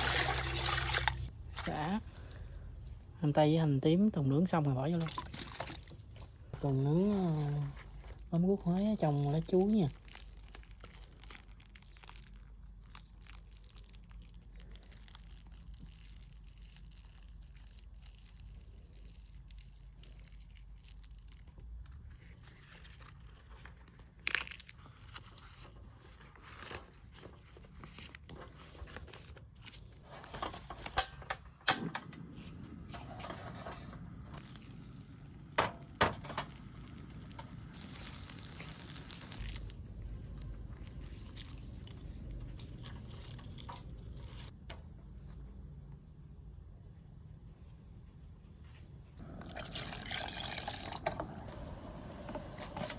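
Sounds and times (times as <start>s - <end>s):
leaf packet crinkling and crackling: 4.6s - 44.6s, 49.2s - 52.9s.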